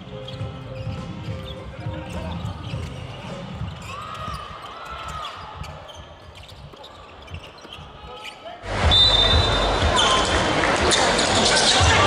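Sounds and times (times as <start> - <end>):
sneakers squeaking on floor: 0.0 - 12.0.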